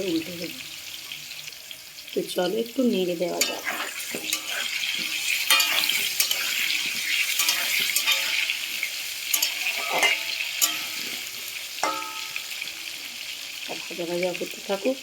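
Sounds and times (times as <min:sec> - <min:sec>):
potatoes sizzling in hot oil: 0:00.0 - 0:15.0.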